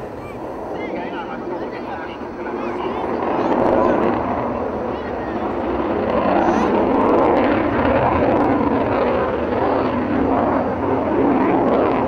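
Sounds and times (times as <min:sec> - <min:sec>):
jet engine roaring past: 0:00.0 - 0:12.0.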